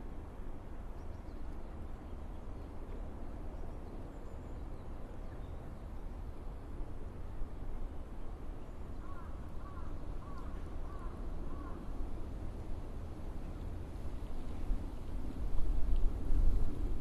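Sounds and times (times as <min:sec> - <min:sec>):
distant traffic and aircraft rumble: 0:00.0 - 0:17.0.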